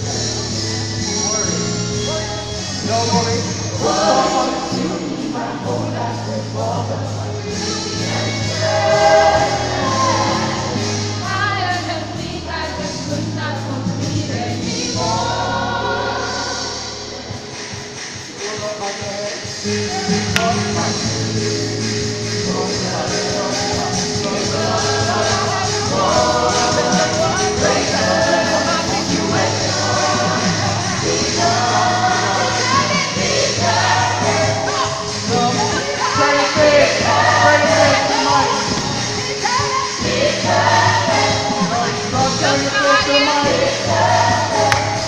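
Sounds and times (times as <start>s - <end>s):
gospel choir singing: 0.0s - 45.0s.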